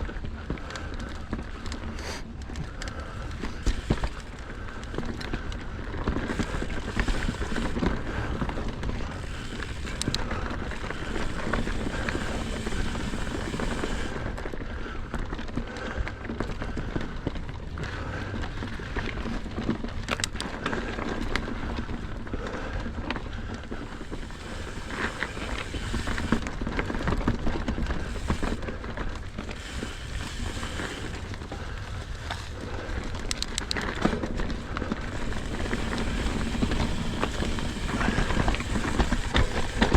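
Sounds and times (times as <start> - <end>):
bike clicks and rattles: 0.0 - 39.9
tyres rumbling on dirt: 0.0 - 39.9.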